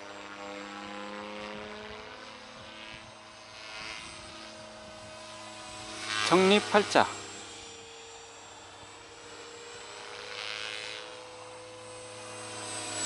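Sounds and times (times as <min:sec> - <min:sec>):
helicopter rotor hum and whine: 0:00.0 - 0:13.0.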